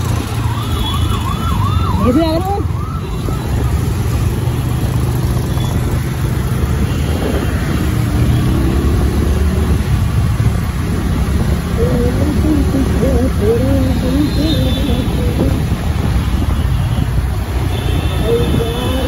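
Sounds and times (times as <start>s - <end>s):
surrounding traffic: 0.0s - 19.0s.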